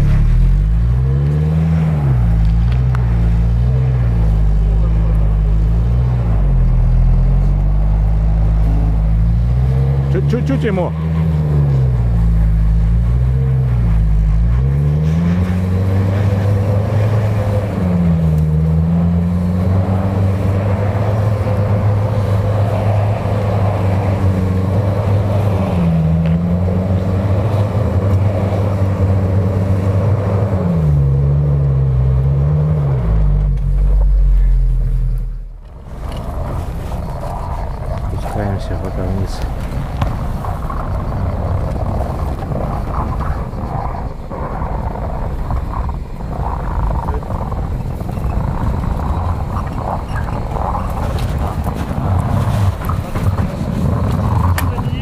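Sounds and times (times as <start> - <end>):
suv engine revving: 0.0 - 55.0.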